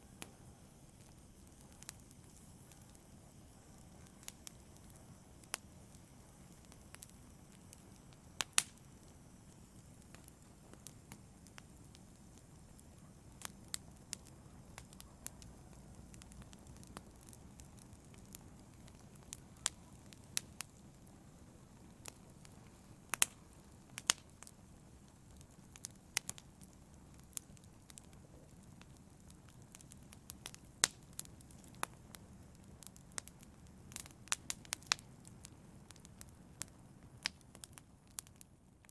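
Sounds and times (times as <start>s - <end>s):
fire crackling and popping: 0.0s - 38.9s
wood fire rumbling: 3.6s - 38.9s.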